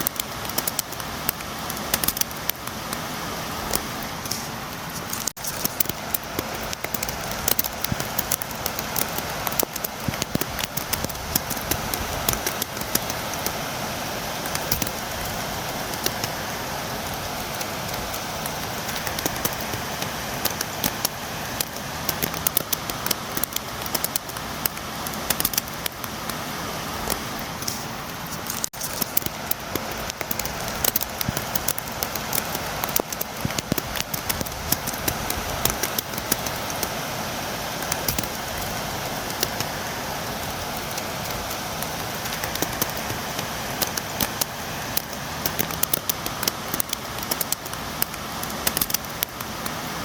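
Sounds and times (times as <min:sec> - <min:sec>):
rain tapping on a window: 0:00.0 - 0:50.0.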